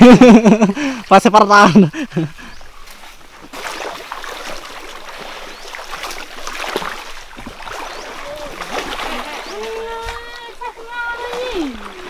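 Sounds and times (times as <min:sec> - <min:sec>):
people wading in water: 0:00.0 - 0:12.0
stream flowing: 0:00.0 - 0:12.0.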